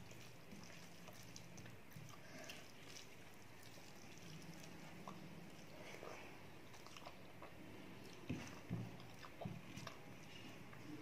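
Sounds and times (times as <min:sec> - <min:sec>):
person chewing: 0:00.7 - 0:10.4.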